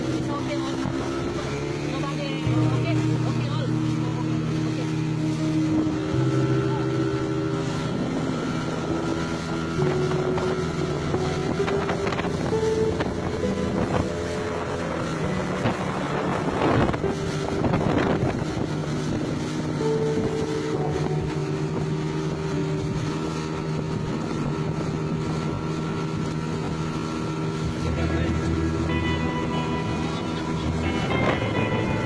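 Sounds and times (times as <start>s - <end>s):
small boat engine running: 0.0s - 32.0s
wind buffeting microphone: 0.0s - 32.0s.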